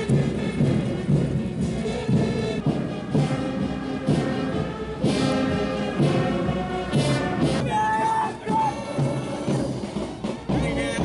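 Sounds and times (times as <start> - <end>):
brass band music: 0.0 - 11.0.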